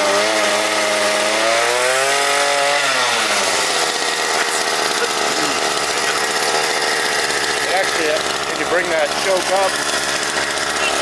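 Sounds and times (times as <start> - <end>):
small motorbike engine revving: 0.0 - 11.0.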